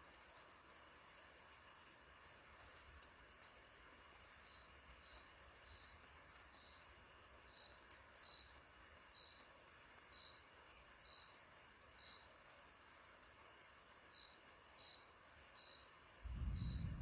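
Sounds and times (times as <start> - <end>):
cricket chirping: 0.0 - 3.5, 4.1 - 17.0
faint ticks: 0.0 - 17.0
low hiss: 0.0 - 17.0.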